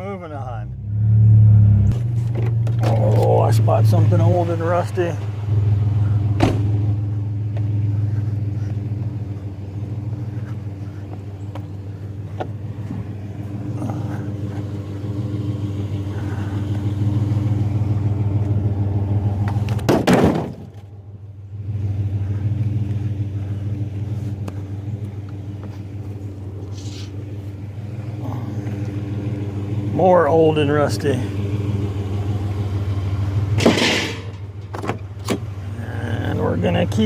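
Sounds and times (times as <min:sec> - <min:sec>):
truck engine humming: 0:00.0 - 0:37.0.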